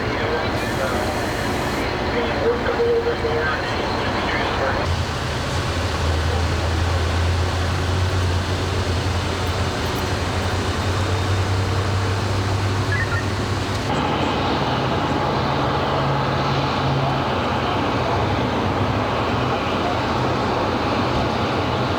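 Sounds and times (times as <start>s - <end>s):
low engine drone: 0.0s - 21.9s
road and traffic noise: 0.0s - 21.9s.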